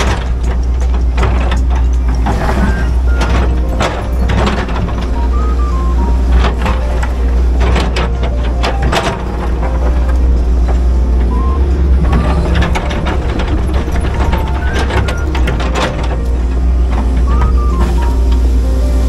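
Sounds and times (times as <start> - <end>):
machine knocks and rattles: 0.0 - 18.9
excavator diesel engine: 0.0 - 19.0.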